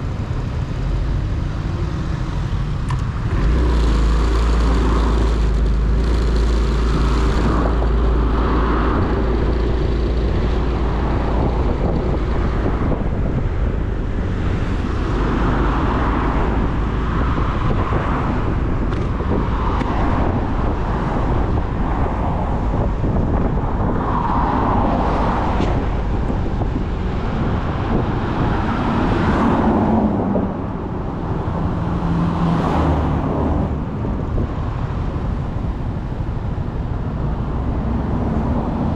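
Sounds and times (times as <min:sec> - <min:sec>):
cars passing by: 0:00.0 - 0:38.9
wind rush and road noise: 0:00.0 - 0:38.9.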